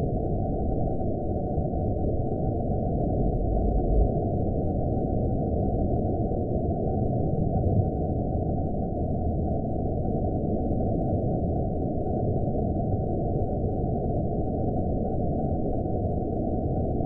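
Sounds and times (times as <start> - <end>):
dark low rumble: 0.0 - 17.0.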